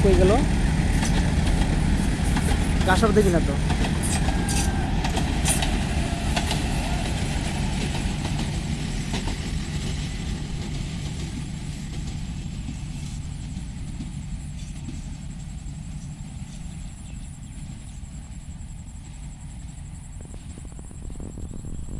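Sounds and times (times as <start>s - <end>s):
passenger train rumbling: 0.0s - 21.9s.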